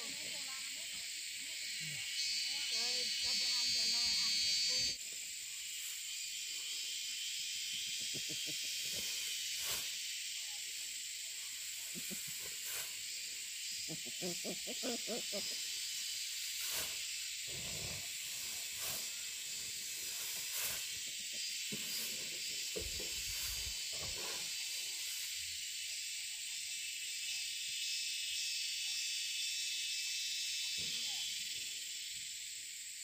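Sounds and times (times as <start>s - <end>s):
high-pitched hiss: 0.0s - 33.0s.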